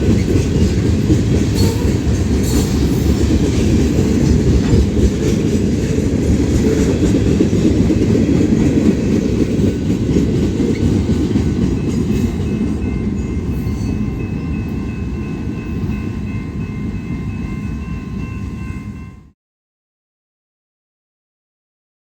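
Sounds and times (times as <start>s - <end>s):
train wheels rumbling on track: 0.0s - 19.3s.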